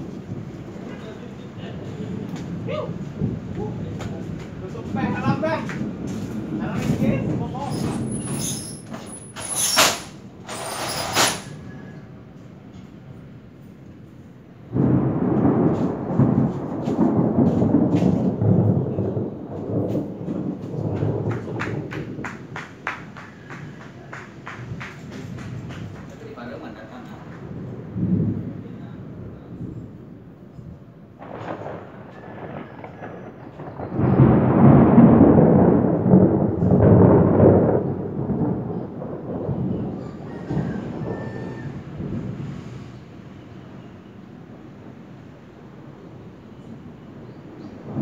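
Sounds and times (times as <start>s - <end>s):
thunder rumbling: 0.0s - 48.0s.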